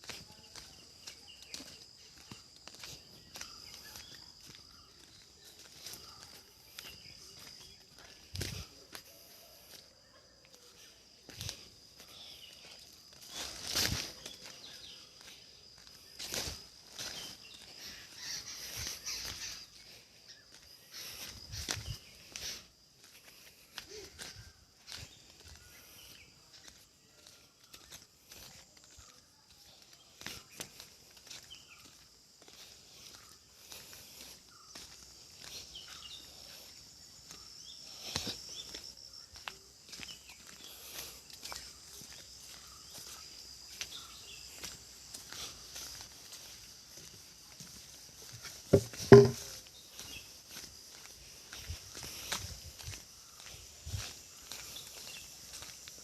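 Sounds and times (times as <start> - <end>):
birds chirping: 0.0 - 9.7, 10.6 - 55.9
footsteps outdoors: 0.0 - 56.0.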